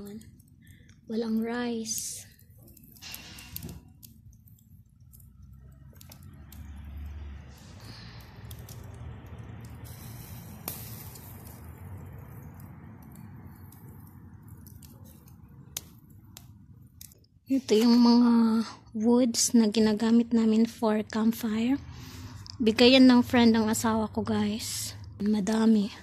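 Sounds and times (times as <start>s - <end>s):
wood fire hiss: 0.0s - 18.7s, 21.3s - 24.9s
wood fire crackles: 0.0s - 26.0s.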